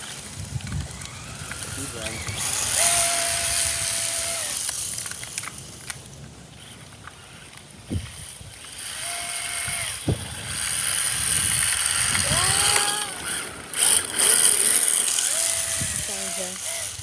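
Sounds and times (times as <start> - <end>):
electric motor whining: 0.0 - 17.0
plastic wheels skidding: 0.0 - 17.0.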